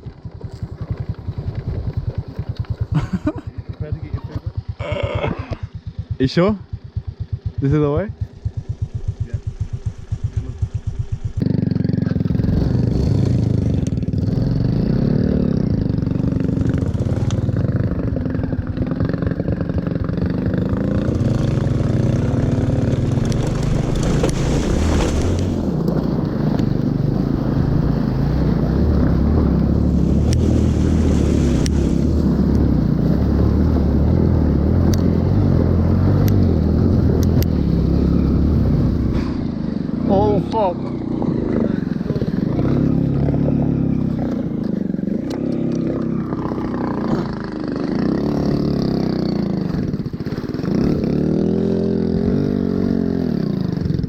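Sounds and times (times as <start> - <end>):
motorbike engine: 0.0 - 54.0
wind: 0.0 - 54.0
road noise: 6.2 - 53.8.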